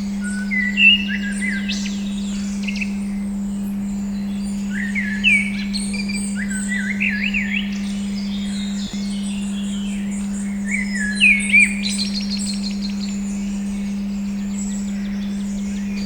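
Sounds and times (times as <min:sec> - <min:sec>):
songbirds chirping: 0:00.0 - 0:16.0
steady pure tone hum: 0:00.0 - 0:16.0.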